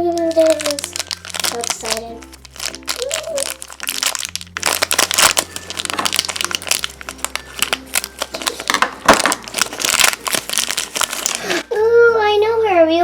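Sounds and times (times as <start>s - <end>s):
plastic wrapper crinkling: 0.0s - 11.7s.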